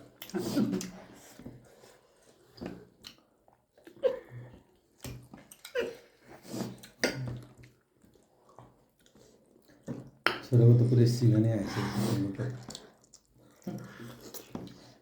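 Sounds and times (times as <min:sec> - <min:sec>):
wet chewing: 0:00.0 - 0:10.4, 0:12.4 - 0:15.0.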